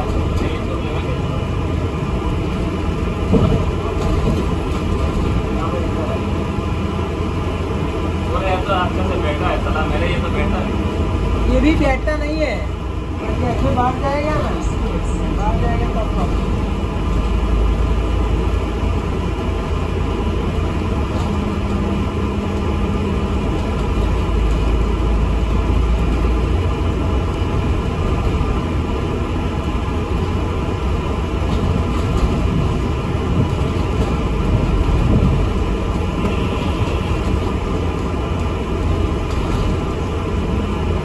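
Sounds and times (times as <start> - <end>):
bus engine rumble: 0.0 - 41.0
road noise: 0.0 - 41.0.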